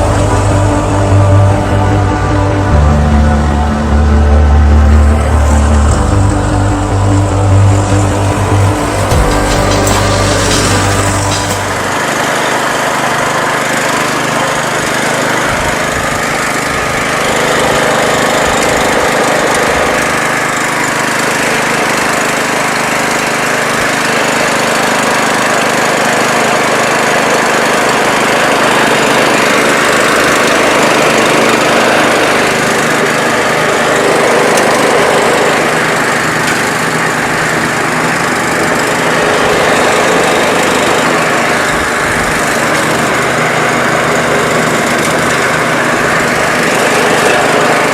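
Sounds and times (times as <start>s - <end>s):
lawn tractor engine running: 0.0s - 47.9s.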